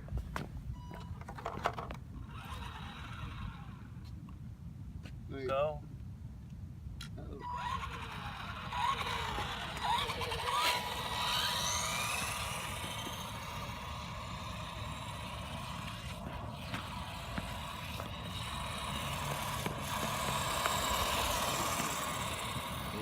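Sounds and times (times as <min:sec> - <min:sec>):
electric toy car motor whining: 0:01.2 - 0:04.0, 0:07.3 - 0:23.0.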